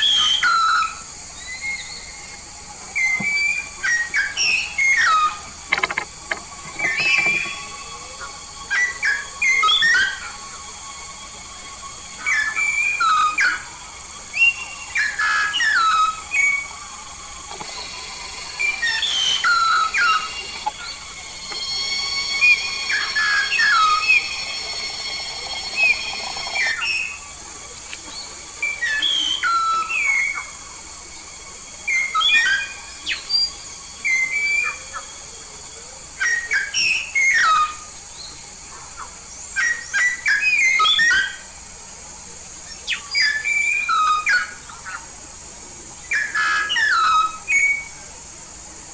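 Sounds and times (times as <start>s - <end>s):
myna calling with whistles: 0.0s - 48.9s.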